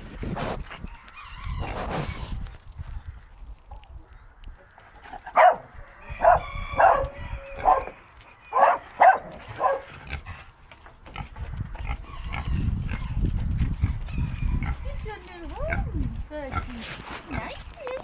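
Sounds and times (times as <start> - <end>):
pig snuffling in mud: 0.0 - 5.8, 7.5 - 18.0.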